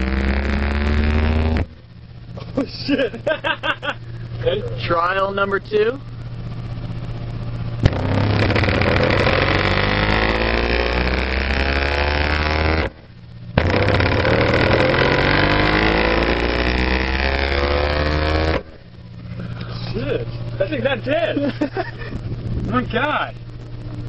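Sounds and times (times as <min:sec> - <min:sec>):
subwoofer playing deep bass tone: 0:00.0 - 0:24.0.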